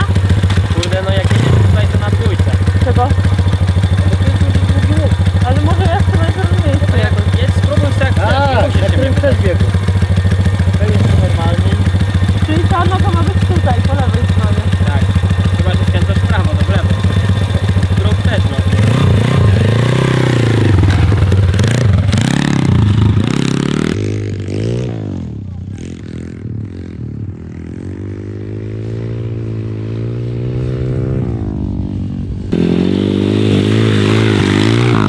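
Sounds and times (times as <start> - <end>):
pit bike engine revving: 0.0 - 35.0.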